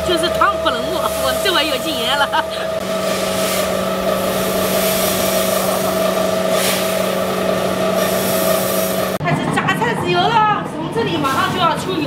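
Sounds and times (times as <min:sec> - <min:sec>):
roasting machine drum humming: 0:00.0 - 0:12.0.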